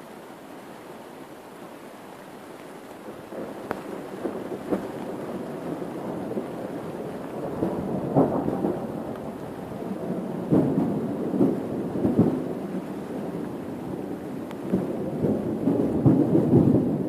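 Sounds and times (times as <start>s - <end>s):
rain hiss: 0.0s - 17.0s
thunder rumbling: 3.1s - 17.0s.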